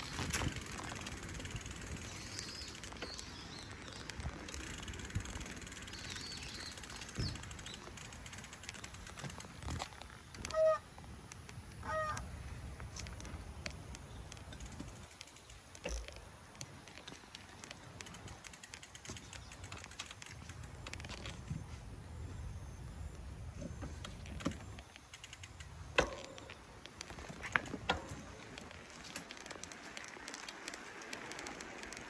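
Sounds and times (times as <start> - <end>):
bicycle rattles and clicks: 0.0 - 21.8, 23.5 - 32.0
bicycle tyres rolling on path: 0.0 - 32.0.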